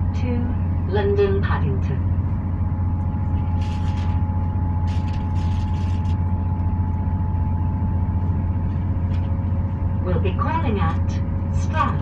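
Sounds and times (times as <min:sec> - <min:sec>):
thin steady whine: 0:00.0 - 0:12.0
train engine and wheels rumbling: 0:00.0 - 0:12.0.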